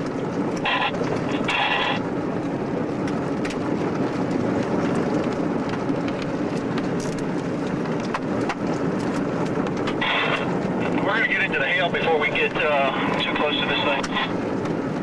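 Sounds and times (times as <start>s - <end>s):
road and engine noise inside car: 0.0s - 15.0s.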